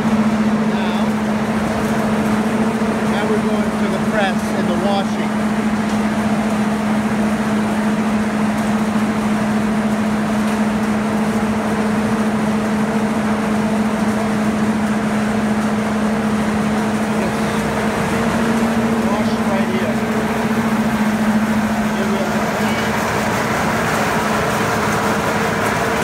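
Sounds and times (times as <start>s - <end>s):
mill machinery humming: 0.0s - 26.0s.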